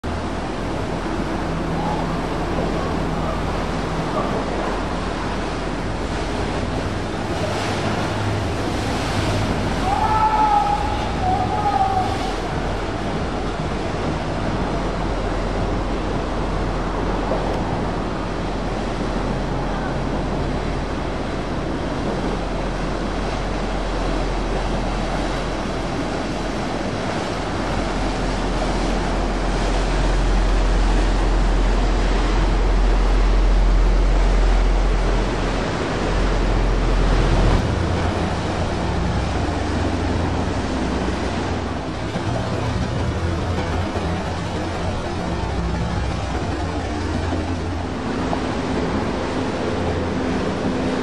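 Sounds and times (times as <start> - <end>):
outboard engine rumble: 0.0 - 51.0
water rushing and churning: 0.0 - 51.0.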